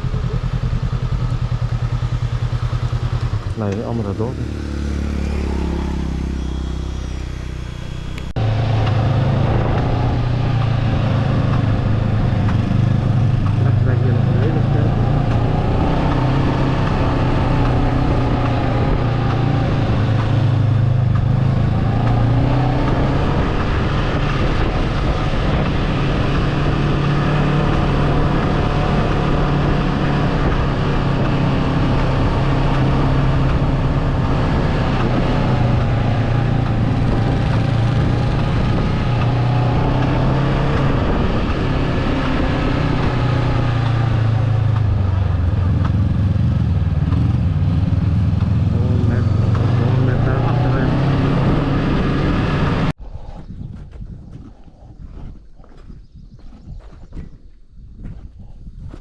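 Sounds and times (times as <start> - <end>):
motorbike engine running: 0.0 - 52.9
wind and road noise: 0.0 - 59.0.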